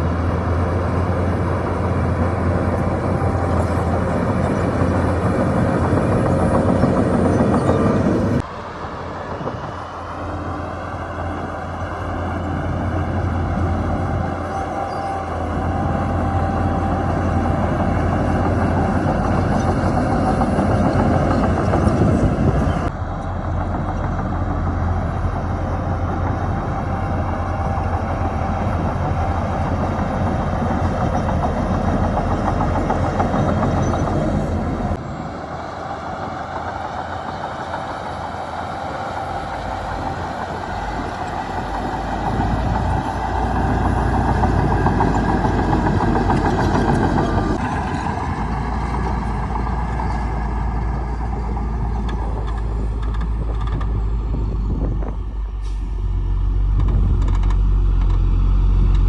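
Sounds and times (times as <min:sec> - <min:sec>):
heavy diesel engines rumbling: 0:00.0 - 0:59.0.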